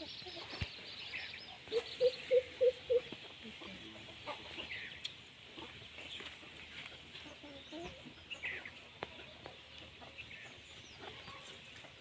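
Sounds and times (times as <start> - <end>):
chicken clucking: 1.5 - 12.0.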